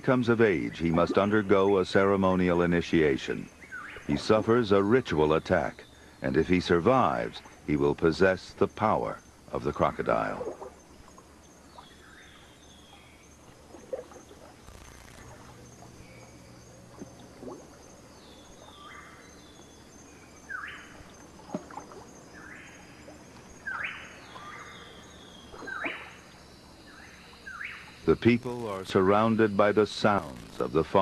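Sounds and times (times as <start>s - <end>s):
faint high-pitched chirring: 0.0s - 31.0s.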